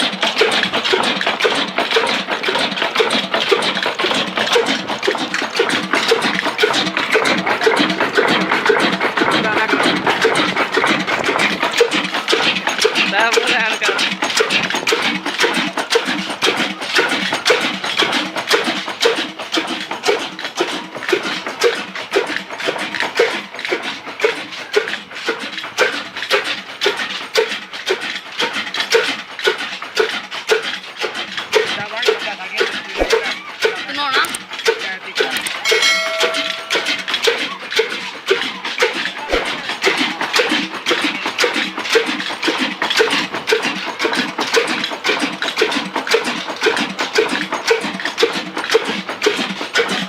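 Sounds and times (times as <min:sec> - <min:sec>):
diesel engine clattering: 0:00.0 - 0:50.0.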